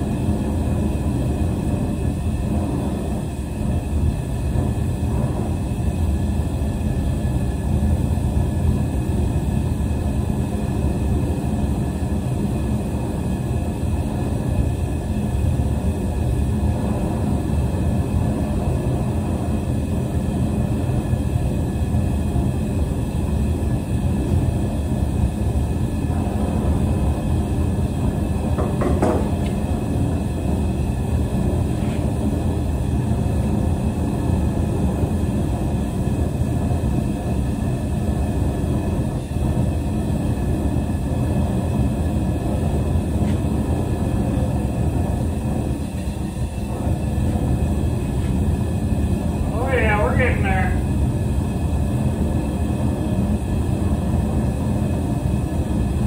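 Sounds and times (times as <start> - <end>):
forge burner rushing: 0.0 - 56.0.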